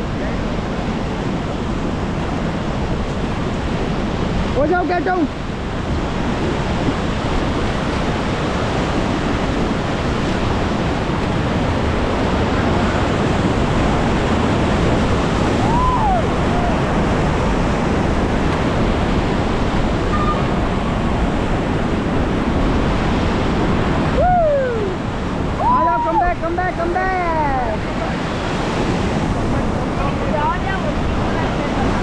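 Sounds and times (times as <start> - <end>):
river rapids rushing: 0.0 - 32.0
wind on microphone: 0.0 - 32.0.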